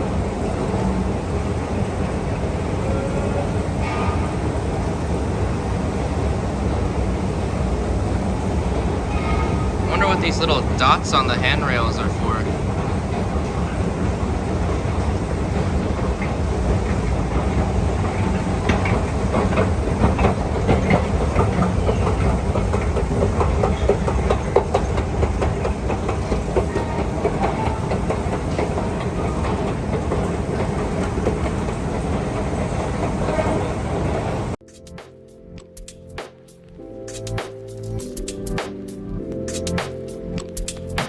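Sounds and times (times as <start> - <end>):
escalator steps clicking and rattling: 0.0 - 34.6.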